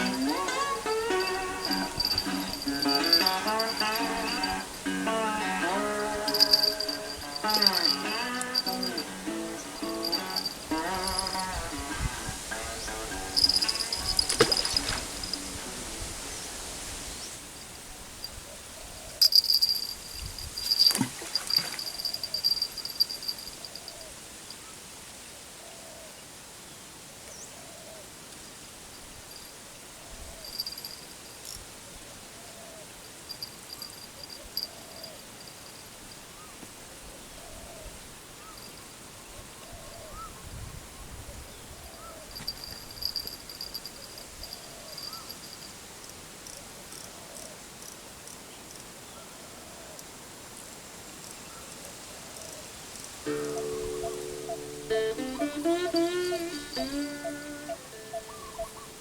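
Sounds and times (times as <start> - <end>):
insects chirring: 0.0 - 24.7, 28.4 - 36.7, 41.5 - 49.0, 50.0 - 59.0.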